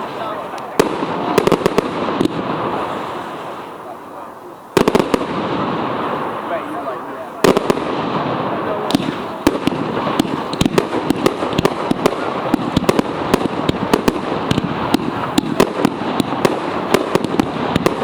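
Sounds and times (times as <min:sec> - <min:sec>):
fireworks bangs and cracks: 0:00.0 - 0:18.0
rumble of firework bursts: 0:00.0 - 0:18.0.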